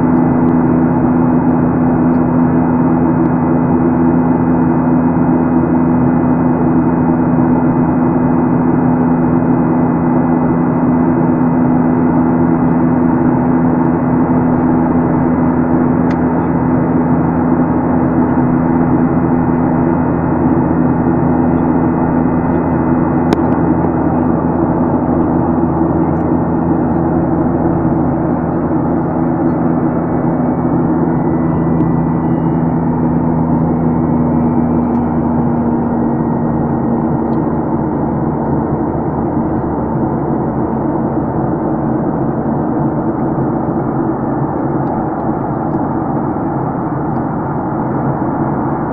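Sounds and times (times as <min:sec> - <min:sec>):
jet engine drone in cabin: 0:00.0 - 0:48.9.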